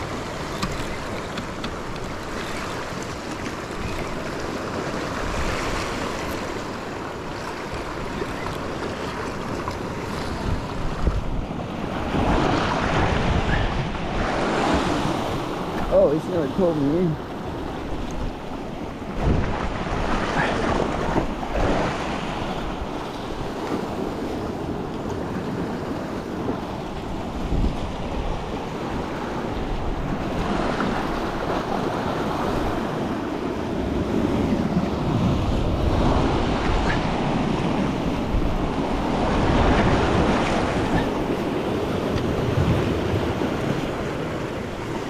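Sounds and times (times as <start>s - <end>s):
wind buffeting microphone: 0.0s - 16.7s, 17.4s - 45.0s
ocean surf washing against rocks: 0.0s - 45.0s.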